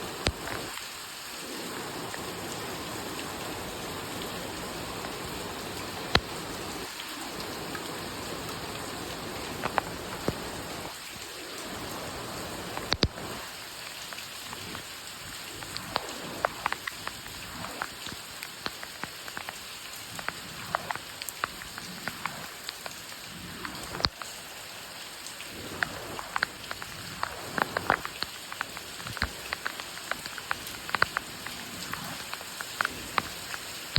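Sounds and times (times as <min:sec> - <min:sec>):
raindrops ticking close by: 0:00.0 - 0:33.9
steady rain hiss: 0:00.0 - 0:33.9.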